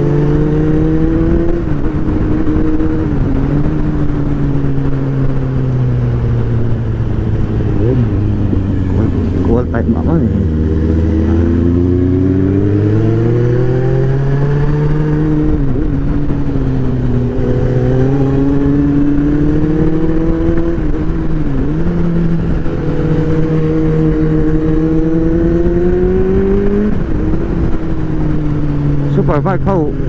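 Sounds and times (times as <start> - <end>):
superbike engine accelerating: 0.0 - 30.0.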